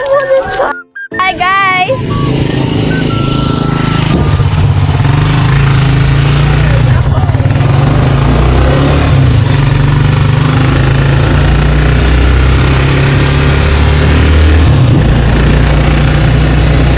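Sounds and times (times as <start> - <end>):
vehicle engine rumbling: 1.3 - 16.9.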